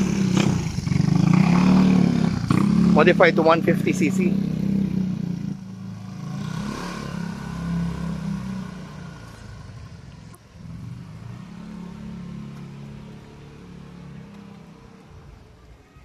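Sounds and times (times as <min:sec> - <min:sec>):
scooter engine accelerating: 0:00.0 - 0:14.8.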